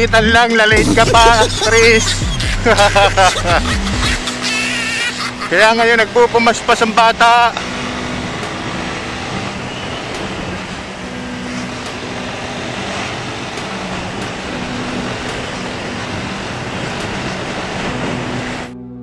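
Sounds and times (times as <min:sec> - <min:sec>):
motorcycle engine hum: 0:00.7 - 0:19.0.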